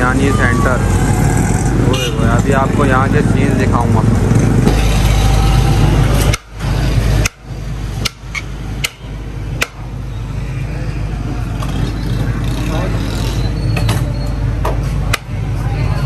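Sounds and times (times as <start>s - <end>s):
street background hum: 0.0s - 16.0s.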